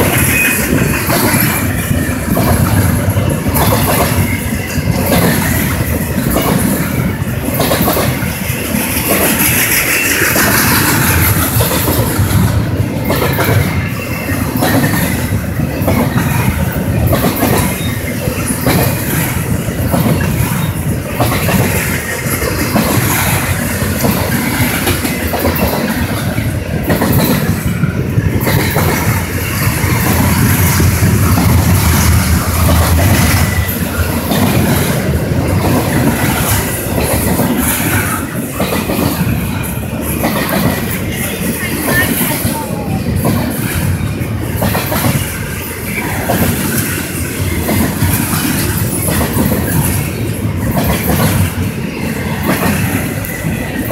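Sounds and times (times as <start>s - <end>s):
freight train wheels rumbling: 0.0s - 53.9s
wheels clickety-clack on rail joints: 0.0s - 53.9s.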